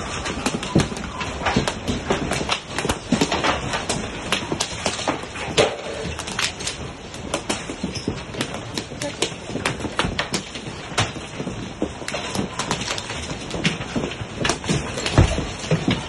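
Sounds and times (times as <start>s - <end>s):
hailstones clattering: 0.0s - 16.0s.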